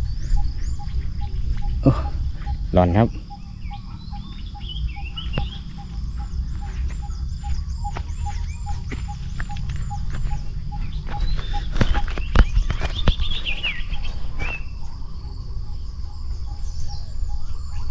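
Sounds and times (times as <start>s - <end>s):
bird chirps: 0.0s - 17.9s
faint pulsing call: 0.0s - 17.9s
steady low rumble: 0.0s - 17.9s.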